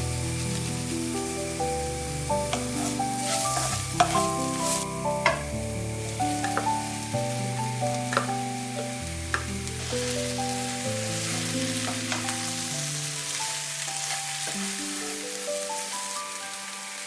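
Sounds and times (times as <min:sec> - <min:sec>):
background music: 0:00.0 - 0:17.0
vegetables sizzling in oil: 0:00.0 - 0:17.0.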